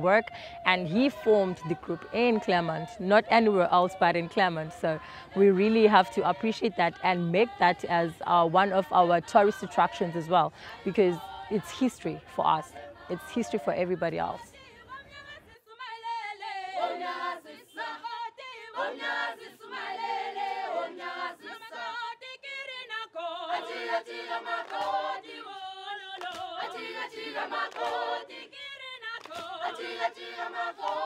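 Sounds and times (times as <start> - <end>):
choir singing a cappella: 0.0 - 31.0.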